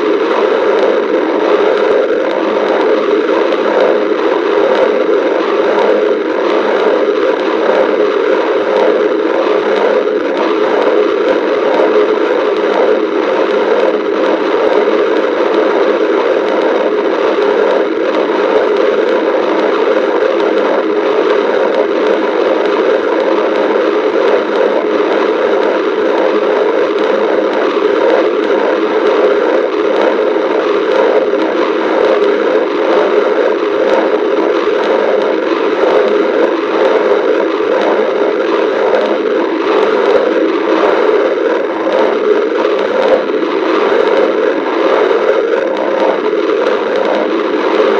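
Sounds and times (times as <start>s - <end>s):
stomach growling: 0.0s - 47.9s.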